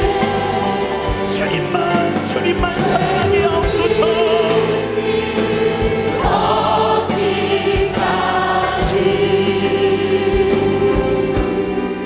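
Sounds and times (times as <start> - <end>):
choir and congregation singing hymn: 0.0 - 12.0
instrumental accompaniment: 0.0 - 12.0.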